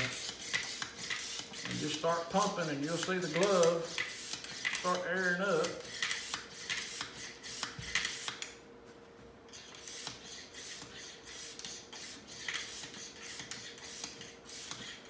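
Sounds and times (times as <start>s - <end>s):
hand air pump strokes: 0.0s - 8.5s, 9.5s - 15.0s.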